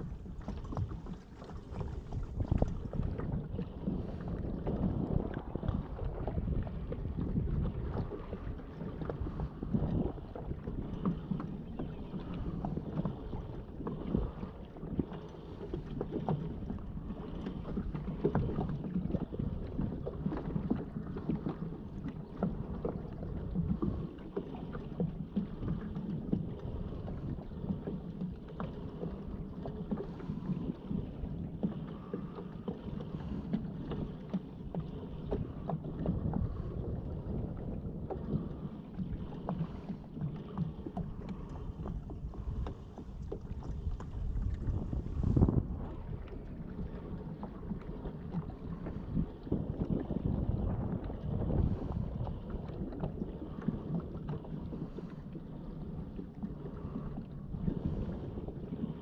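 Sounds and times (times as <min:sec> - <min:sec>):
water lapping against hull: 0:00.0 - 0:59.0
wind on microphone: 0:00.0 - 0:59.0.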